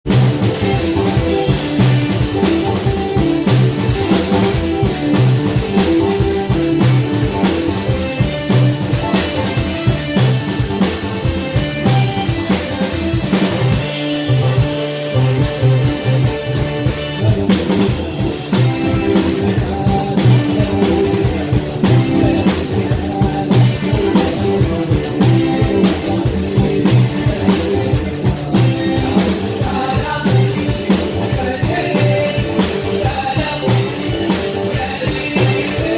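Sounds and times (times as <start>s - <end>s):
drum kit beat: 0.0s - 35.9s
live band playing instrumental: 0.0s - 35.9s.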